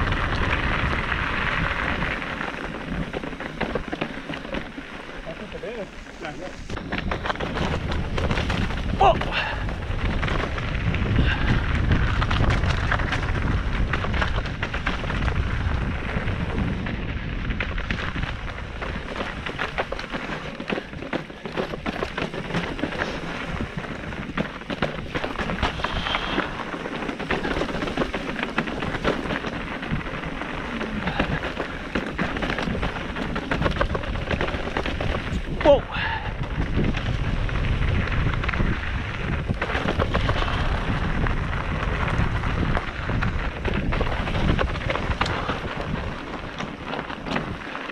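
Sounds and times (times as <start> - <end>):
bike rattling: 0.0 - 47.9
tyres crackling over loose stones: 0.0 - 47.9
wind rumble on microphone: 0.0 - 47.9.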